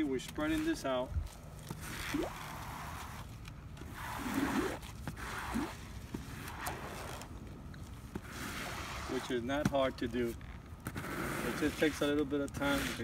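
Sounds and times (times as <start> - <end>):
squeegee scraping wet sealer: 1.7 - 7.3, 8.1 - 13.0.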